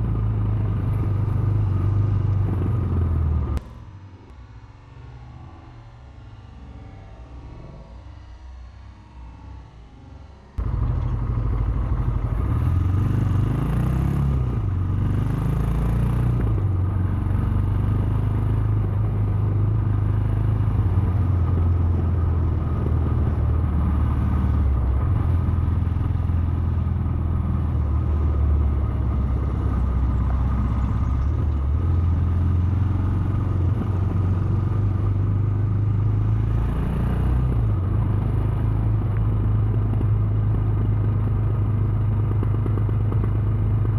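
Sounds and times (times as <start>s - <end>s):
motorcycle engine running: 0.0s - 6.7s, 9.4s - 43.9s.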